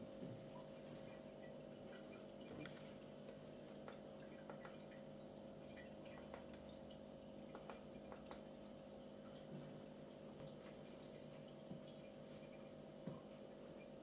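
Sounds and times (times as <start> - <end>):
faint steady hum: 0.0 - 14.0
small soft clicks and ticks: 0.3 - 14.0.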